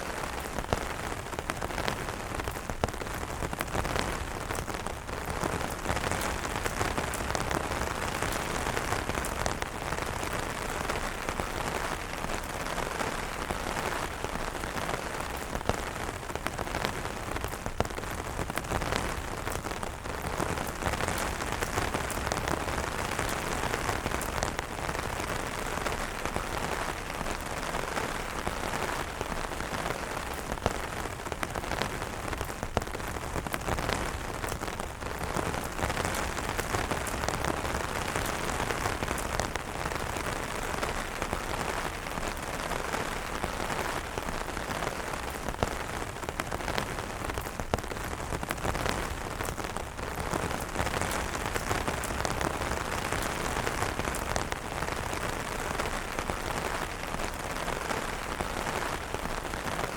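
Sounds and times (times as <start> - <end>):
rain on an umbrella: 0.0 - 59.9.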